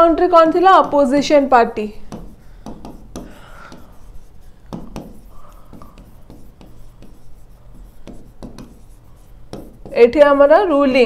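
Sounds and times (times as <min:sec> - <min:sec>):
pen scratching and tapping: 0:00.4 - 0:01.3, 0:02.1 - 0:10.3.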